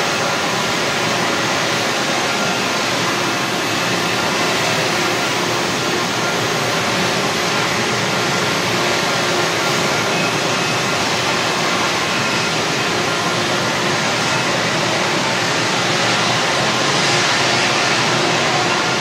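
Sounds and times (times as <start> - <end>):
machinery roar: 0.0 - 19.0.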